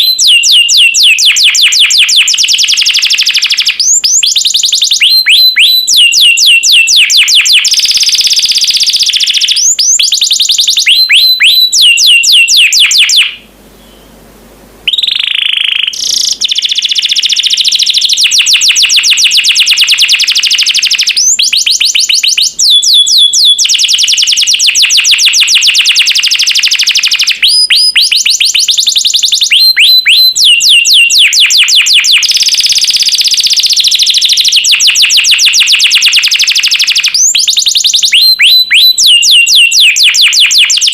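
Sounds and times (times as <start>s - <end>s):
canary singing trills: 0.0s - 14.2s, 14.8s - 40.9s.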